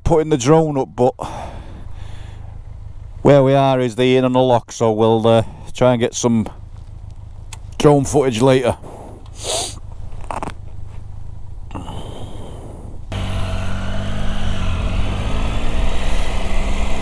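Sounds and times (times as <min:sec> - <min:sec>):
motorcycle engine droning: 0:01.1 - 0:04.3, 0:05.9 - 0:17.0.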